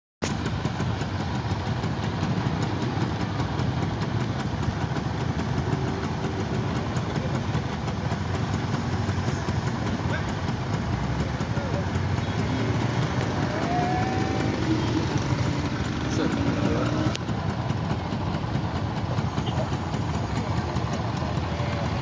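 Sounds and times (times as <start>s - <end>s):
motorcycle engine idling: 0.2s - 22.0s
vehicles idling: 0.2s - 22.0s.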